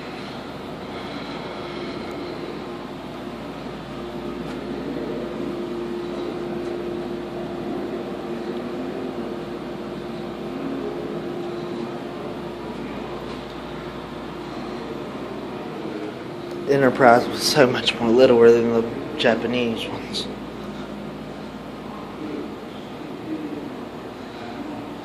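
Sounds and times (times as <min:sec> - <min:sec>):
constant low hum: 0:00.0 - 0:25.0.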